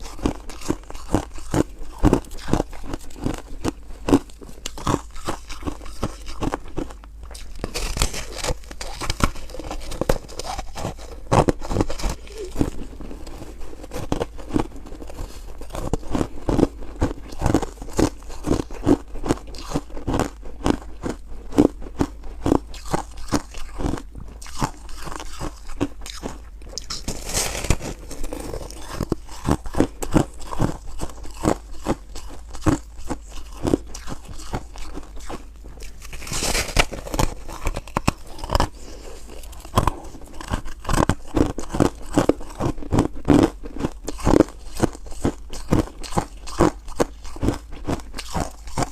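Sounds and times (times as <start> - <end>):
foam ice being chewed: 0.0 - 48.9.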